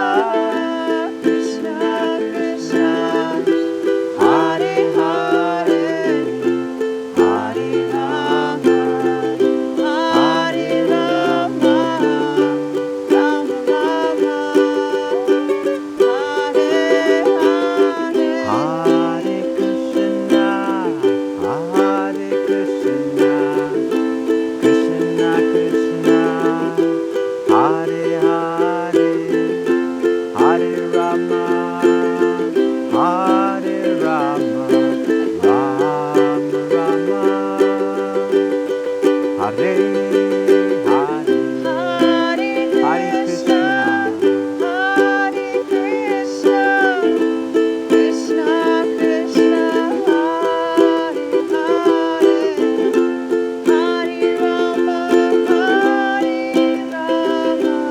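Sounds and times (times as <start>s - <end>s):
devotional music with ukulele: 0.0s - 57.9s.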